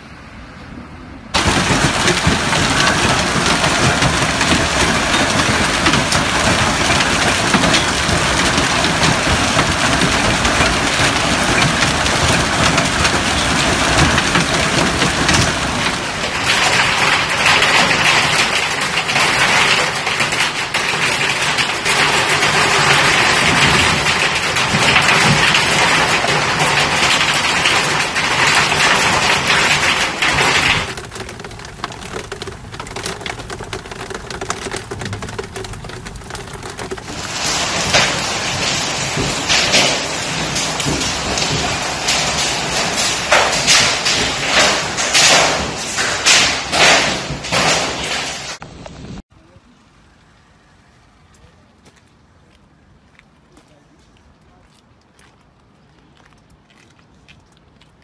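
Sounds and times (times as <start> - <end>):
hailstones clattering: 1.3 - 49.2
heavy rain rushing: 1.3 - 49.3.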